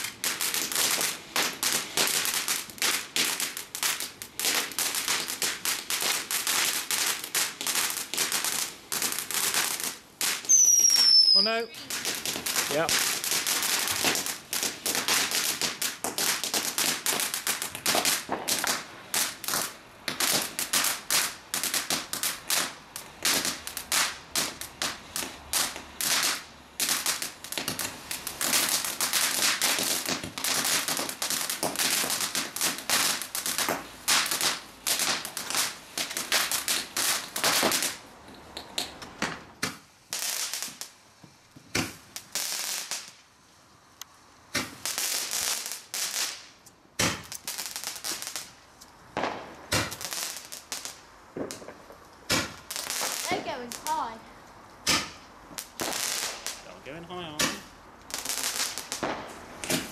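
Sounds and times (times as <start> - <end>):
fireworks cracking and banging: 0.0 - 59.9.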